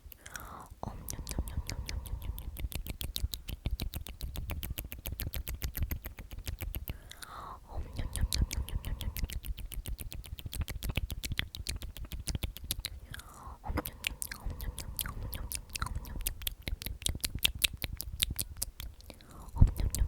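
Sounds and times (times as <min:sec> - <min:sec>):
wet lip and tongue clicks: 0:00.0 - 0:20.0.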